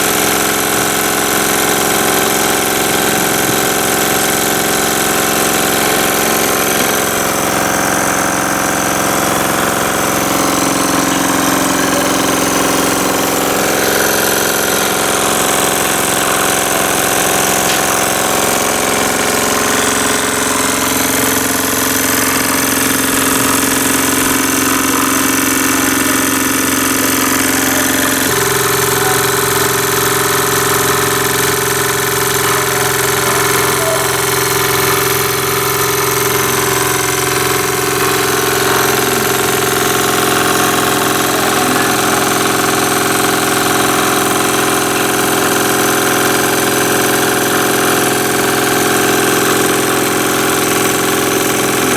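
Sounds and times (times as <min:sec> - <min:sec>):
model steam engine running: 0:00.0 - 0:51.9.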